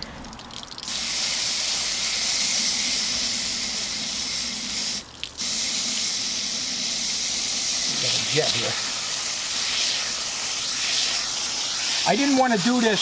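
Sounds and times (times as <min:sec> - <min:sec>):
hose nozzle spraying water: 0:00.5 - 0:13.0.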